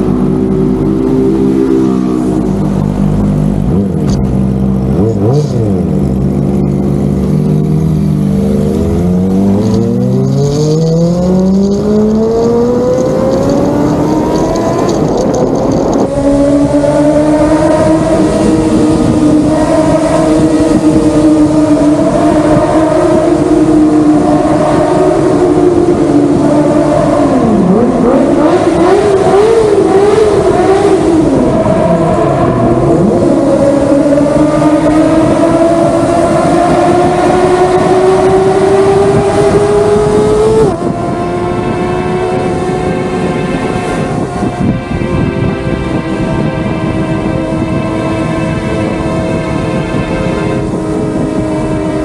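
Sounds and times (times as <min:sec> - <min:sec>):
motorcycle engines revving high: 0:00.0 - 0:52.0.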